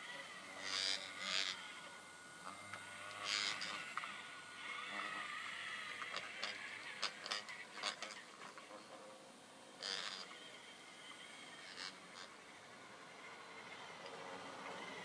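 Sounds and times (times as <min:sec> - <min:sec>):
electric motor whining: 0:00.0 - 0:08.8, 0:09.4 - 0:15.0.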